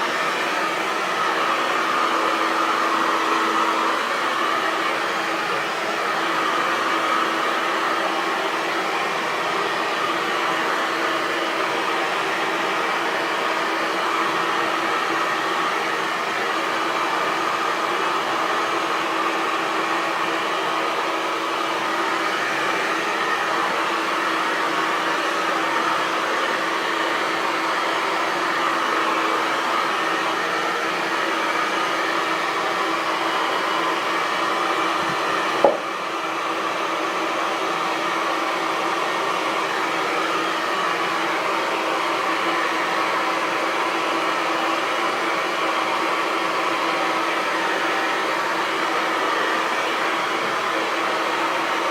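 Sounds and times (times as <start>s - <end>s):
hair dryer blowing air: 0.0s - 51.9s.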